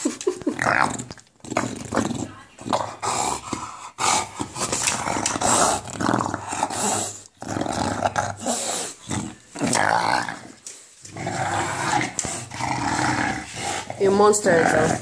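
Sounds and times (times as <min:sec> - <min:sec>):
dog growling: 0:00.4 - 0:15.0.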